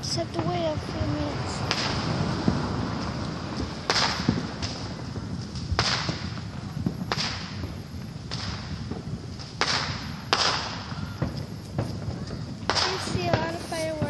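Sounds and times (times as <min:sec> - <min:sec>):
fireworks cracking with echo: 0:00.0 - 0:14.0.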